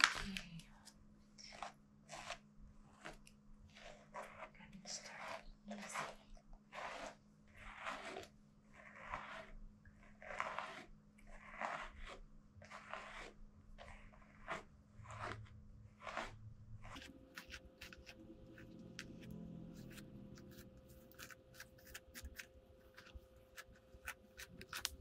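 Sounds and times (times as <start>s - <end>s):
brush strokes through fur: 1.5s - 25.0s.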